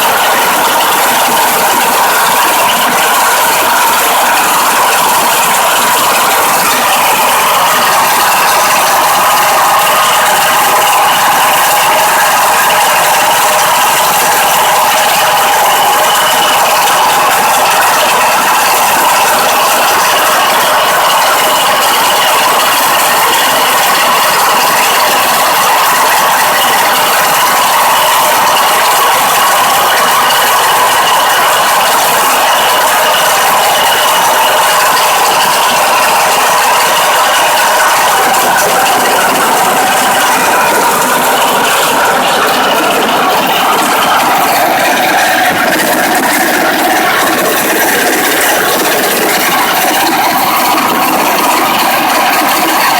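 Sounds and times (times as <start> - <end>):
harvesting machine running: 0.0 - 52.9.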